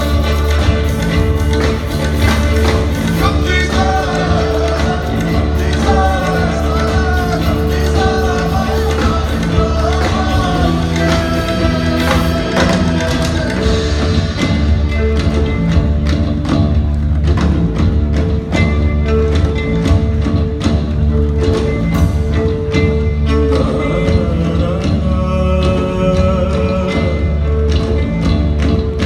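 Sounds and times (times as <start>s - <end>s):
drum hits: 0.0s - 24.9s
heavy bass: 0.0s - 29.0s
live band music: 0.0s - 29.0s.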